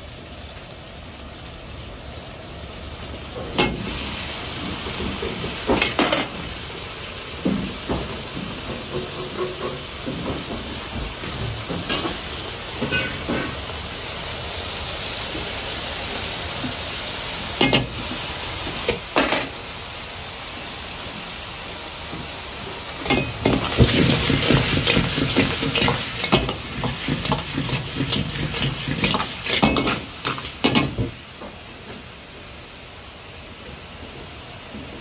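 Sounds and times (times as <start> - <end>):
sizzling in a hot wok: 0.0 - 35.0.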